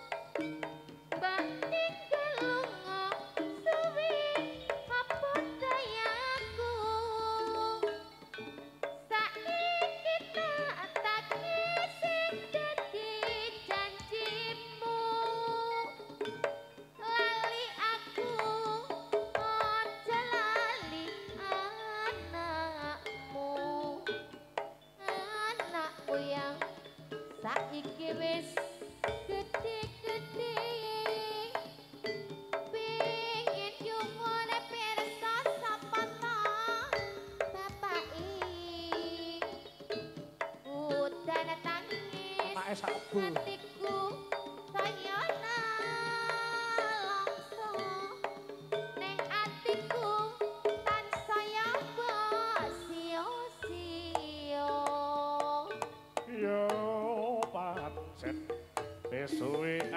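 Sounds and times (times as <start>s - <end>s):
gamelan music: 0.0s - 59.9s
steady drumming: 0.0s - 59.9s.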